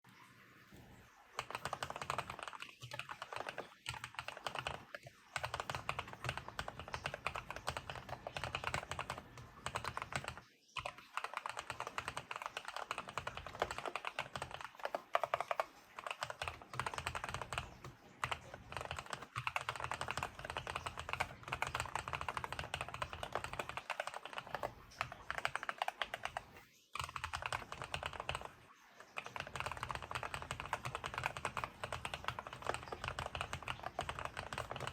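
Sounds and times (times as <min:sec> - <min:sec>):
muted mechanical keyboard typing: 0:01.3 - 0:34.9.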